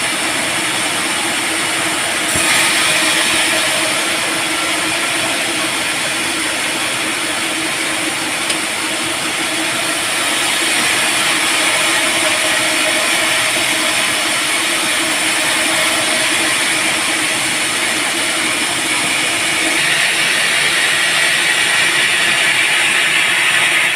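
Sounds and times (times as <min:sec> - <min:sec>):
band sawmill running: 0:00.0 - 0:23.9.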